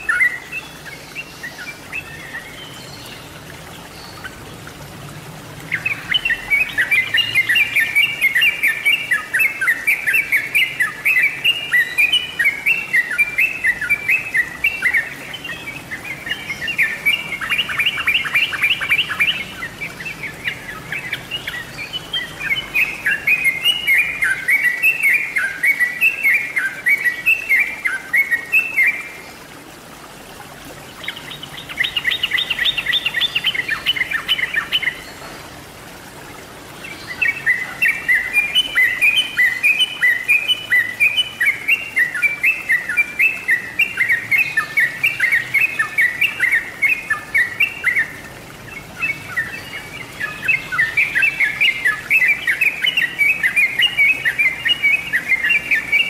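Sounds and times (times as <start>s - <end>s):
bird singing bubbly chirps: 0.0s - 35.6s, 36.7s - 56.0s.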